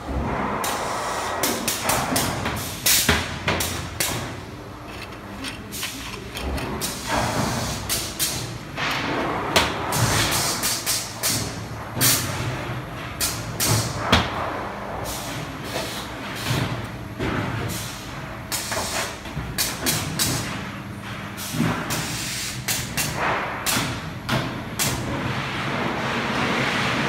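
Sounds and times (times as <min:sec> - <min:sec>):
factory machinery humming: 0:00.0 - 0:27.0.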